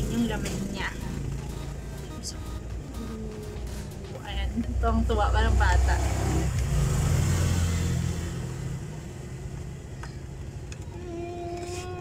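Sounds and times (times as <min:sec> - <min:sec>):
vehicle engine running: 0:00.0 - 0:10.9.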